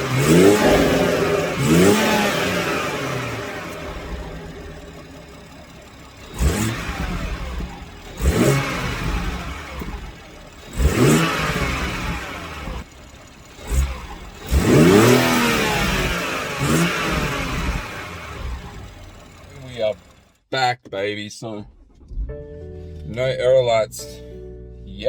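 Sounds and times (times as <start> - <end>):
engine throttle blips: 0.0 - 20.4
car engine idling: 0.0 - 25.0.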